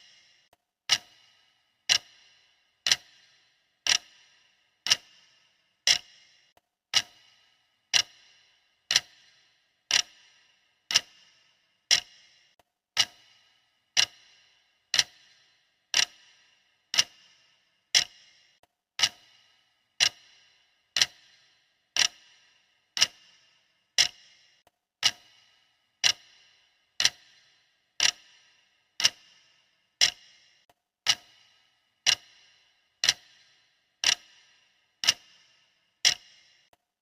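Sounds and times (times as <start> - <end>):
clock ticking: 0.0 - 36.8.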